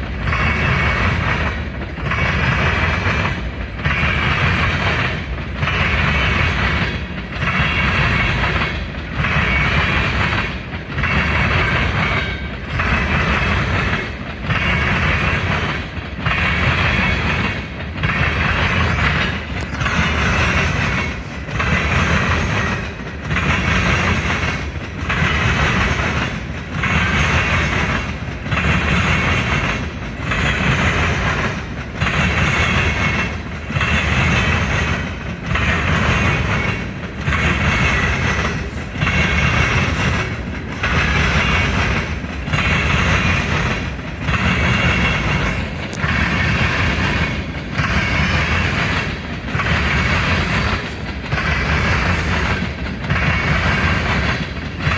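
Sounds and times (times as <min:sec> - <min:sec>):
train wheels on rails: 0:00.0 - 0:54.9.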